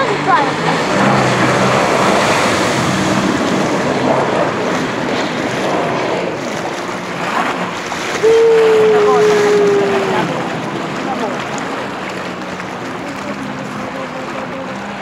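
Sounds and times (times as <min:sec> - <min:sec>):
personal watercraft engine: 0:00.0 - 0:15.0
water spray rushing: 0:00.0 - 0:15.0
wind buffeting microphone: 0:00.0 - 0:15.0.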